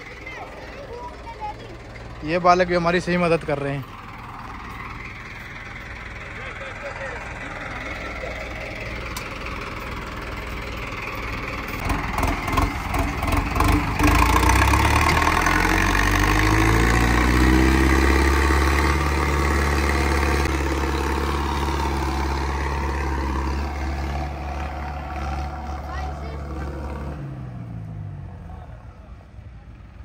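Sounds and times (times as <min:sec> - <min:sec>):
vehicle engine straining under load: 0:00.0 - 0:30.0.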